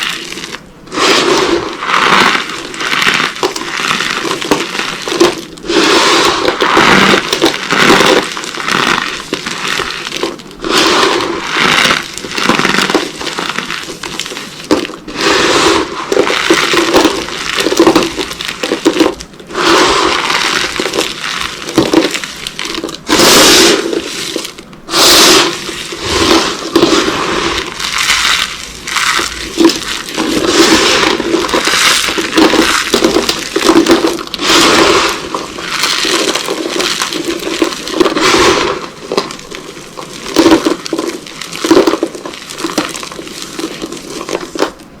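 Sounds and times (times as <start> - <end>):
cardboard boxes crunching: 0.0 - 44.8.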